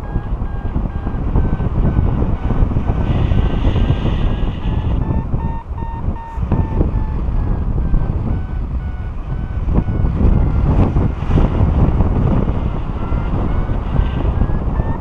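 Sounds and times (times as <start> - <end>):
variometer beeping: 0.0 - 15.0
wind buffeting microphone: 0.0 - 15.0.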